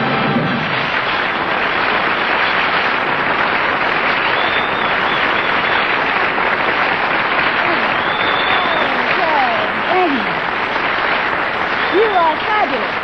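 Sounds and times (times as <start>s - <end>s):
studio audience applauding: 0.0s - 13.0s.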